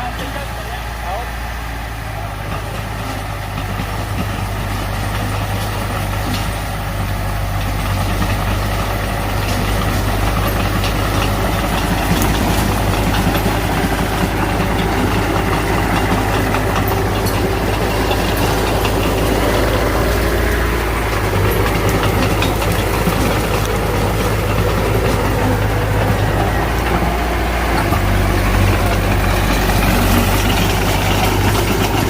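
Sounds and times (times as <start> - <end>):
heavy machinery diesel engine running: 0.0 - 32.0.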